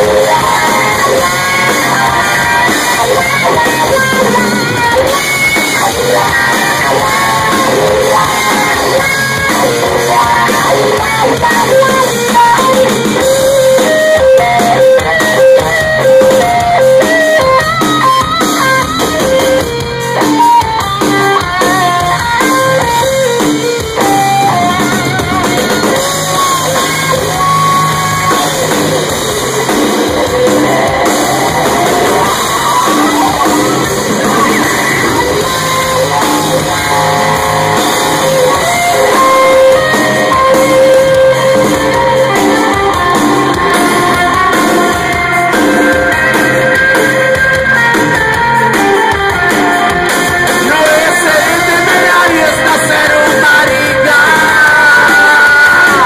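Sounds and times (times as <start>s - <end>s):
drums: 0.0s - 56.0s
electric guitars: 0.0s - 56.0s
lead singer: 0.0s - 56.0s.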